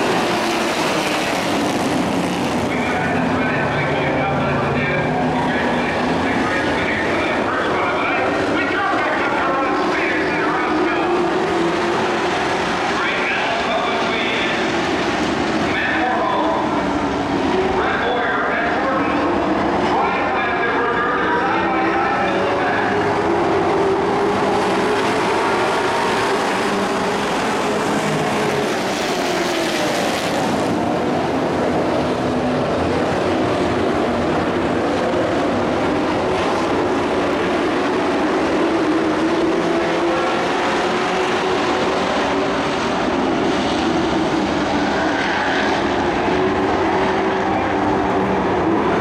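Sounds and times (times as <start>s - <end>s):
race truck engines revving: 0.0s - 49.0s.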